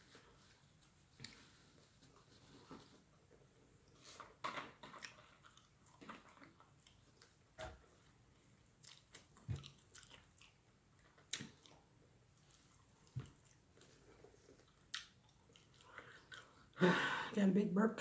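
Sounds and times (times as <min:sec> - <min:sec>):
close chewing and mouth sounds: 0:00.0 - 0:16.8.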